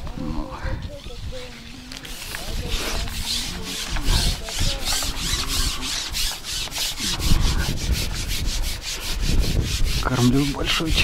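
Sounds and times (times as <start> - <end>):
fast rhythmic scratchy rubbing: 1.0 - 11.0.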